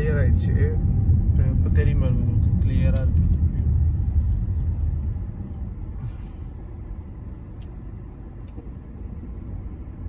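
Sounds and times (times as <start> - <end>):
car rumble from inside cabin: 0.0 - 10.0.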